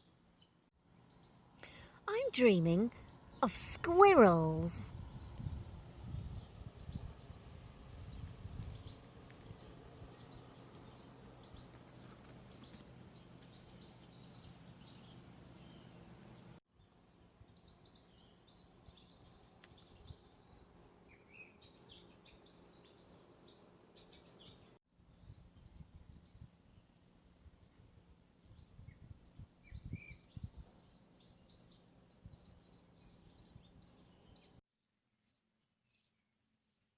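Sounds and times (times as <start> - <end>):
faint birds chirping: 0.0 - 34.6.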